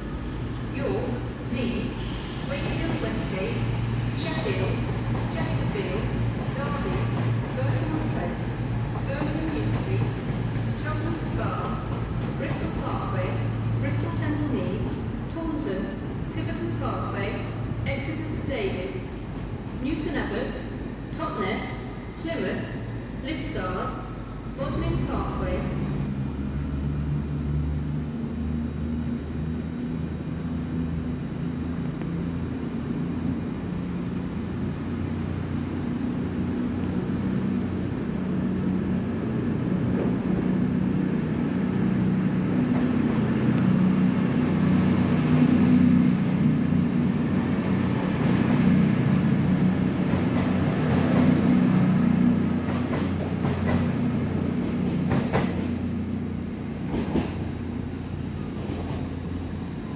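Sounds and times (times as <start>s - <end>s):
diesel train engines humming: 0.0s - 59.9s.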